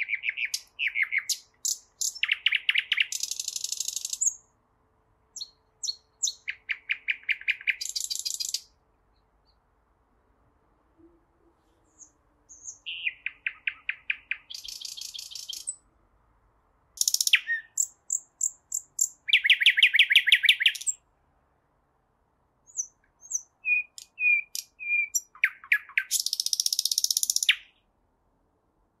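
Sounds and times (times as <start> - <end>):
nightingale singing: 0.0 - 4.6, 5.3 - 9.7, 11.0 - 15.9, 17.0 - 21.1, 22.6 - 27.9.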